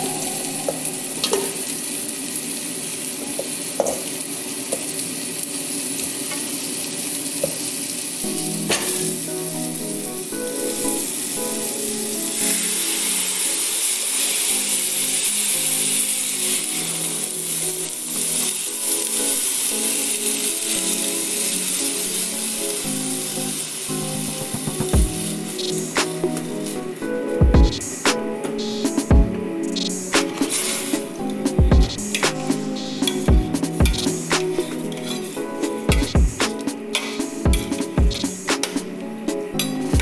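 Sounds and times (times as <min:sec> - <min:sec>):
background music with melody: 0:00.0 - 0:01.9, 0:08.2 - 0:40.0
food sizzling in a pot: 0:00.0 - 0:40.0.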